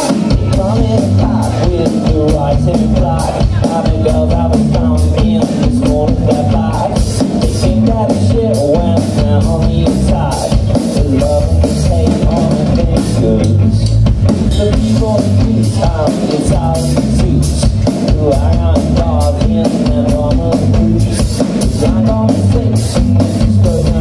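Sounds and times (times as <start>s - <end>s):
bass guitar: 0.0s - 24.0s
drum kit beat on cymbals: 0.0s - 24.0s
person singing: 0.0s - 24.0s.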